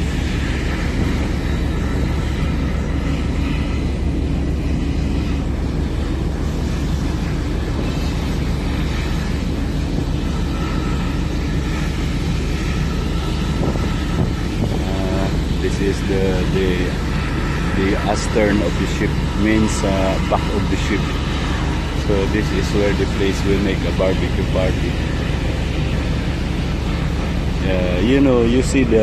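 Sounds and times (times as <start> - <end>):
ship engines droning: 0.0 - 29.0.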